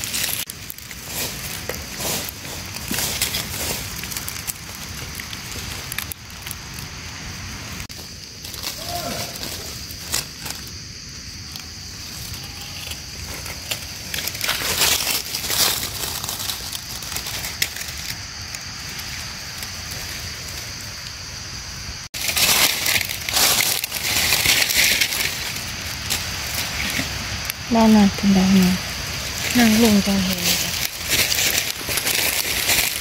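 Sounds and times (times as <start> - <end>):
dry leaves crunching and rustling: 0.0 - 21.3, 22.1 - 33.0.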